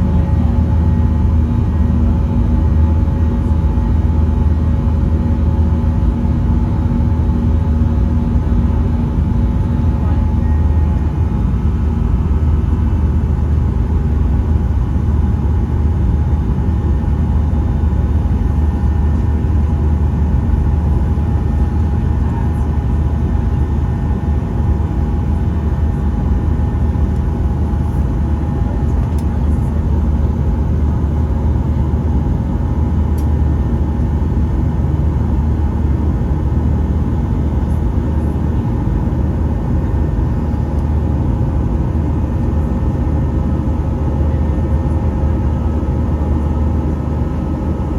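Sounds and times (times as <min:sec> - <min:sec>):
airplane cabin engine rumble: 0:00.0 - 0:47.9
faint constant hums: 0:00.0 - 0:47.9.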